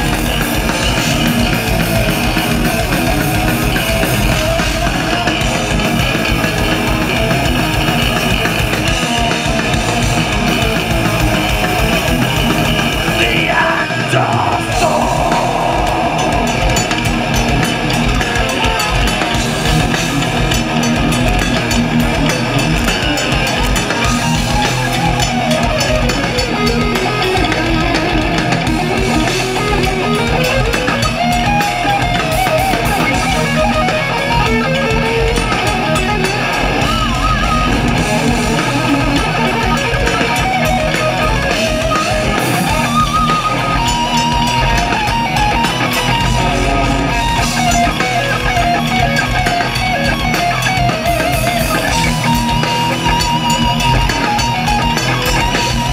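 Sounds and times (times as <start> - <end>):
guitar line sliding in pitch: 0.0 - 55.9
metal band playing live: 0.0 - 55.9.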